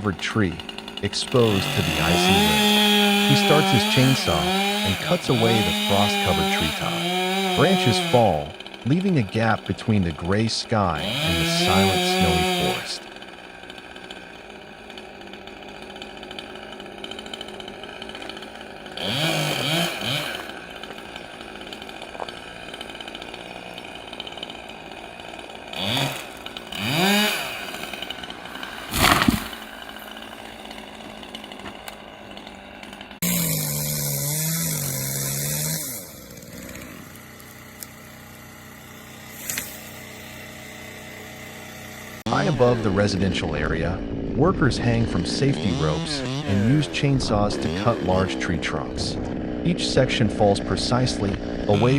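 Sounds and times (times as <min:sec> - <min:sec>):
chainsaw cutting wood: 0:00.0 - 0:51.9
chainsaw idling and revving: 0:00.0 - 0:51.9.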